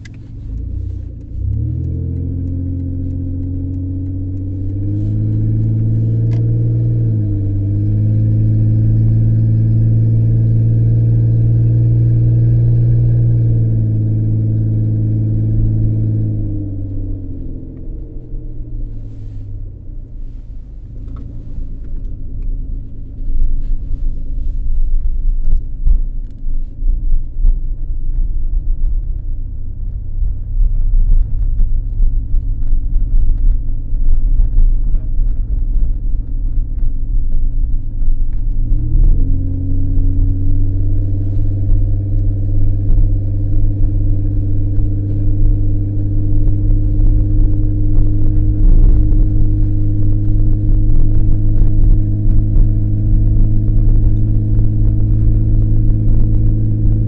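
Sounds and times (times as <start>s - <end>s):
loud car engine exhaust: 0.0s - 57.0s.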